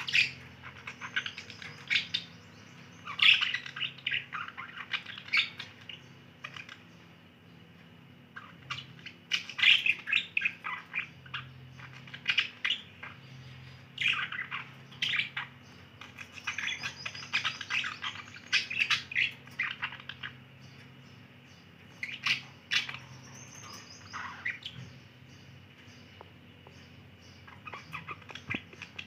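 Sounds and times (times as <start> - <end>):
budgerigars chattering: 0.0 - 7.1, 8.3 - 21.0, 21.8 - 29.0.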